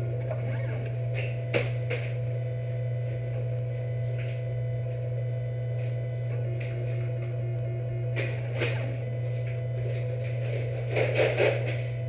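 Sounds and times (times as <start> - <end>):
fan hum: 0.0 - 12.0
stepper motor tones: 0.0 - 12.0.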